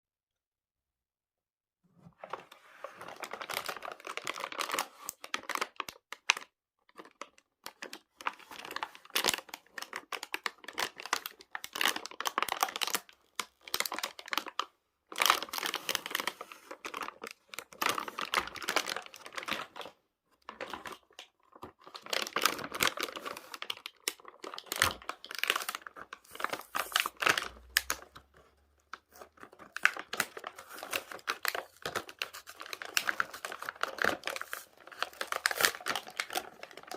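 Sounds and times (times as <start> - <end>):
toy packaging crinkling and tearing: 2.9 - 36.9.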